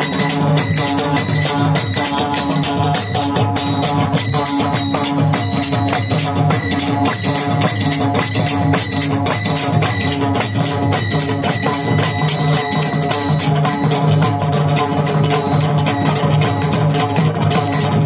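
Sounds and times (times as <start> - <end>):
metallic jingle: 0.0 - 18.0.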